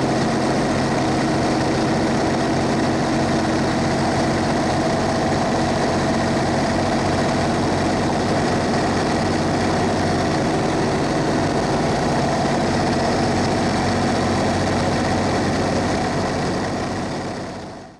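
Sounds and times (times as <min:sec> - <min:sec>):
bus diesel engine idling: 0:00.0 - 0:17.9.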